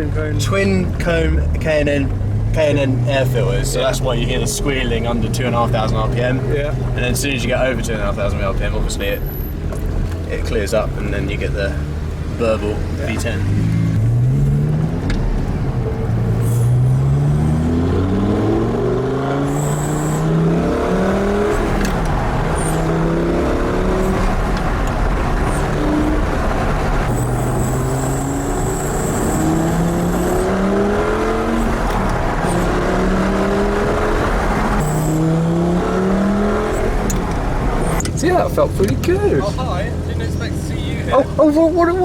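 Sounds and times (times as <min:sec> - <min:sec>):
sports car engine revving through gears: 0:00.0 - 0:41.4.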